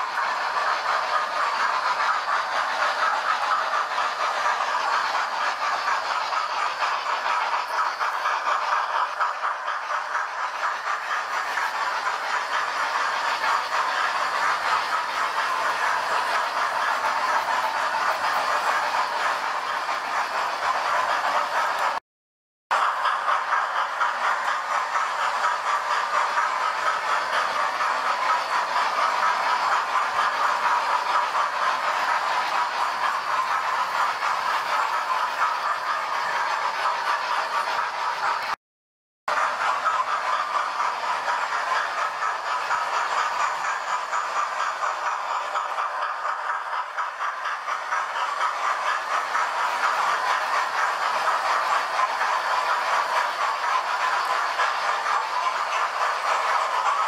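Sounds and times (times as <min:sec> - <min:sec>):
model train motors whirring: 0:00.0 - 0:22.0, 0:22.8 - 0:38.6, 0:39.3 - 0:57.0.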